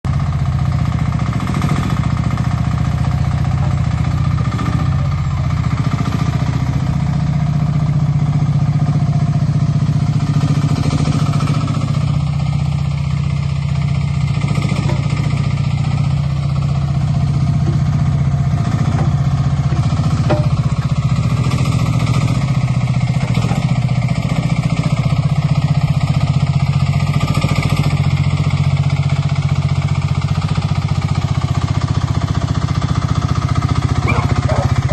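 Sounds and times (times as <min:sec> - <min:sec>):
loader engine droning: 0:00.1 - 0:34.9.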